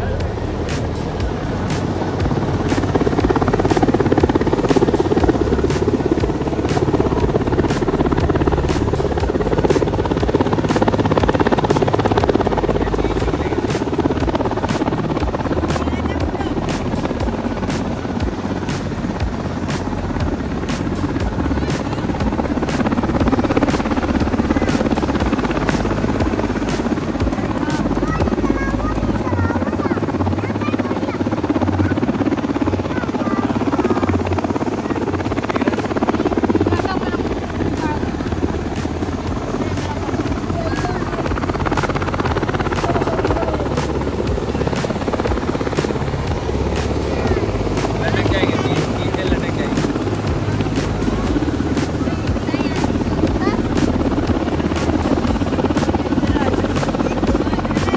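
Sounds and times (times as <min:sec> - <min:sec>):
helicopter rotor beating: 0:00.0 - 0:57.9.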